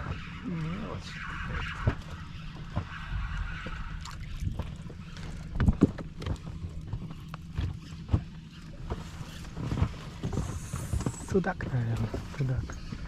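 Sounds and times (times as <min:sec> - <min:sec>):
knocks and clicks in a boat: 0:00.0 - 0:00.7, 0:01.6 - 0:13.0
wind rumble on microphone: 0:00.0 - 0:13.0.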